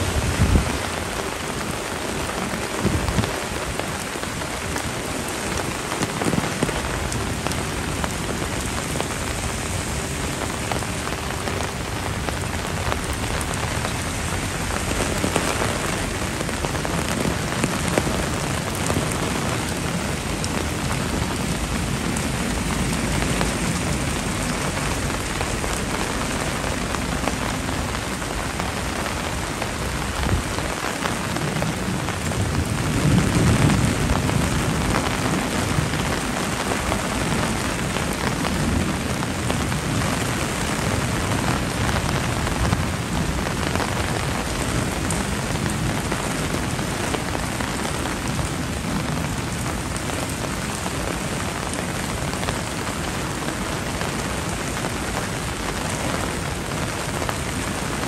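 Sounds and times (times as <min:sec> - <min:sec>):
heavy rain splashing: 0:00.0 - 0:58.0.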